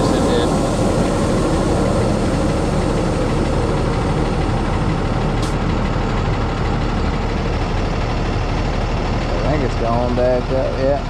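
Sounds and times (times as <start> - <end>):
air system building pressure: 0.0 - 10.2
diesel truck engine idling: 0.0 - 11.0.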